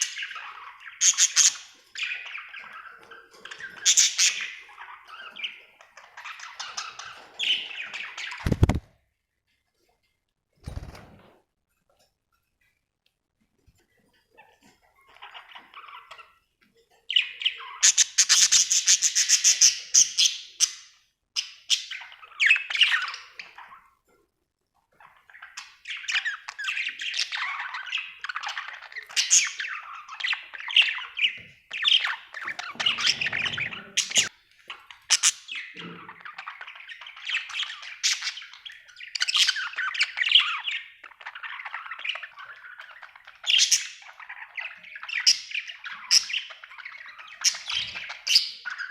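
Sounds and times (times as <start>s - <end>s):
budgerigar chirping and chattering: 0.0s - 8.8s, 17.1s - 23.9s, 25.0s - 48.9s.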